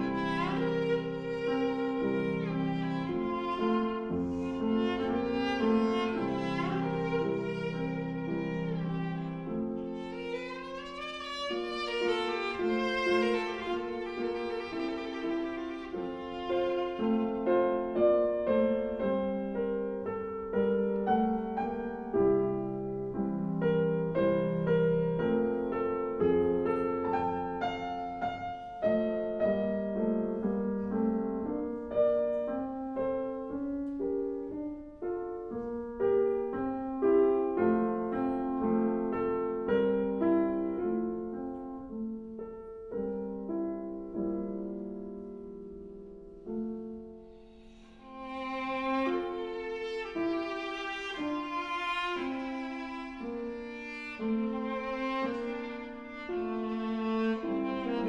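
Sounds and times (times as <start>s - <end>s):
acoustic piano playing chords: 0.0s - 58.0s.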